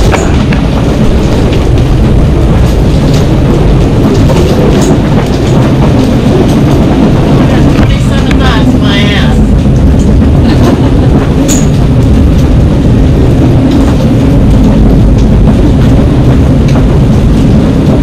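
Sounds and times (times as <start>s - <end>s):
rush of sea: 0.0s - 18.0s
wind buffeting canvas: 0.0s - 18.0s.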